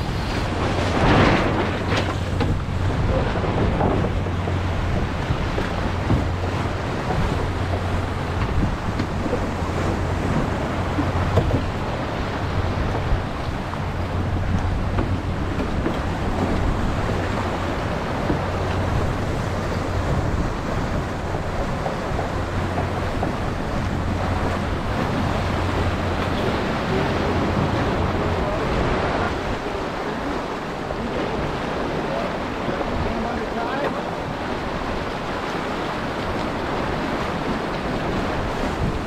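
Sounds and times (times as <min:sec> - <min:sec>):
water rushing past boat hull: 0:00.0 - 0:39.0
wind rumble on microphone: 0:00.0 - 0:39.0.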